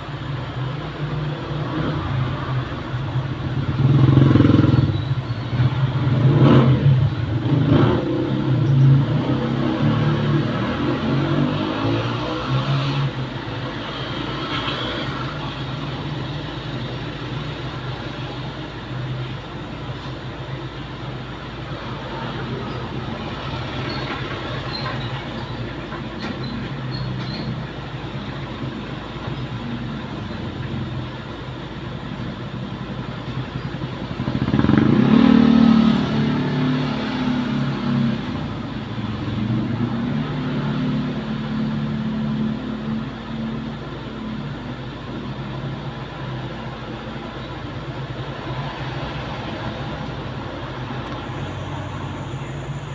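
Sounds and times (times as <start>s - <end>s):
road vehicle engine noise: 0.0s - 52.9s.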